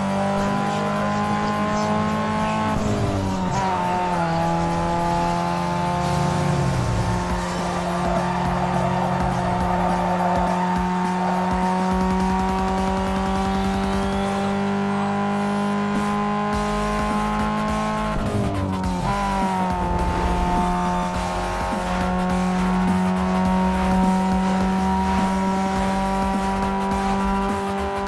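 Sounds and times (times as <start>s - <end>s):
turbo engine at high revs: 0.0s - 28.0s.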